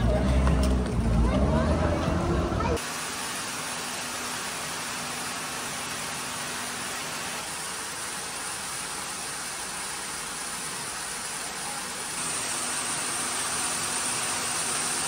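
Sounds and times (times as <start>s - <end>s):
hiss of pumped water: 2.8s - 15.0s.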